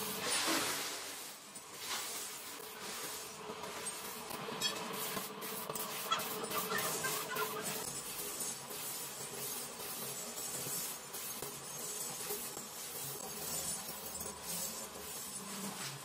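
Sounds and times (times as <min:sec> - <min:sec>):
machinery hum and hiss: 0:00.0 - 0:16.0.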